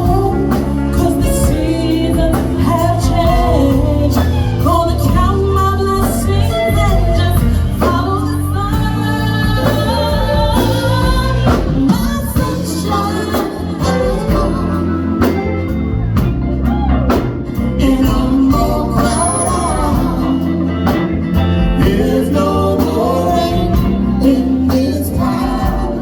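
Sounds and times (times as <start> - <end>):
woman singing: 0.0 - 15.8, 17.5 - 26.0
bass: 0.0 - 26.0
drums: 0.0 - 26.0
live band playing soul song: 0.0 - 26.0.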